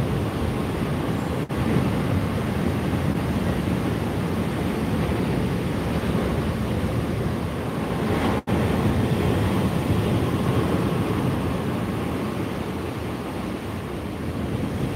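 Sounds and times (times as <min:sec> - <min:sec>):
surf breaking on beach: 0:00.0 - 0:14.9
wind rumbling on microphone: 0:00.0 - 0:14.9.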